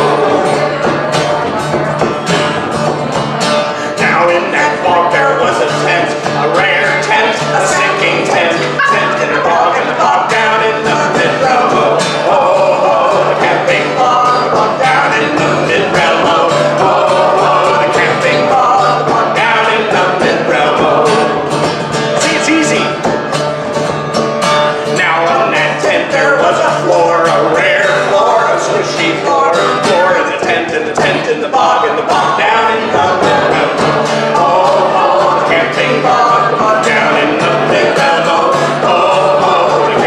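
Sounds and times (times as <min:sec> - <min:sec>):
person singing folk song: 0:00.0 - 0:40.0
strummed acoustic guitar: 0:00.0 - 0:40.0.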